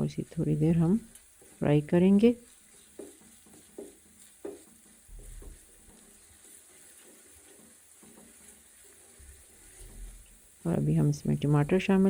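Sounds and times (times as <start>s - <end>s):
onion frying in oil: 0.0s - 12.0s
soft knocks of stirring: 0.4s - 11.3s.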